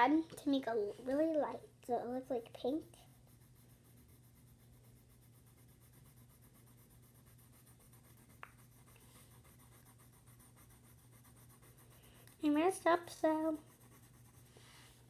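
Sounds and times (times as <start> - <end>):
low steady hum: 0.0 - 15.0
pencil scratching on paper: 2.0 - 15.0.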